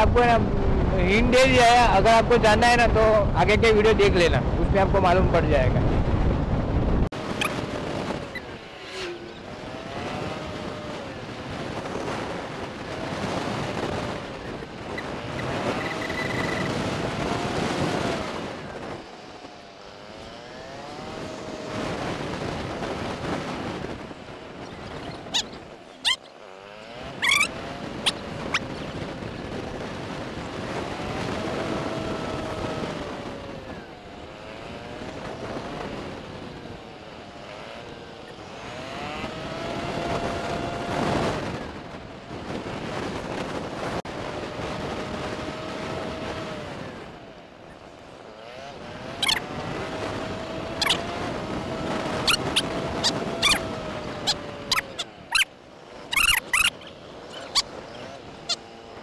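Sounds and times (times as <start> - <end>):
wind rushing past microphone: 0.0 - 59.0
motorcycle engine revving: 5.6 - 59.0.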